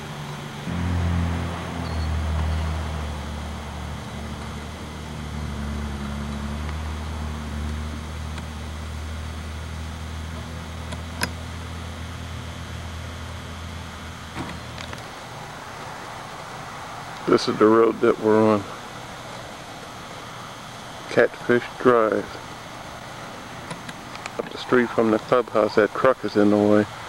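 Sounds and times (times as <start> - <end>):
car engine idling: 0.0 - 26.8.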